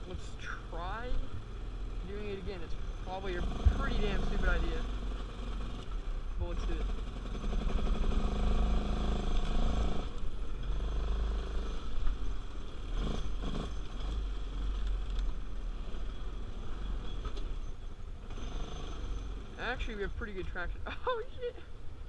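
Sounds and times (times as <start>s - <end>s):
atv engine revving: 0.0s - 19.7s.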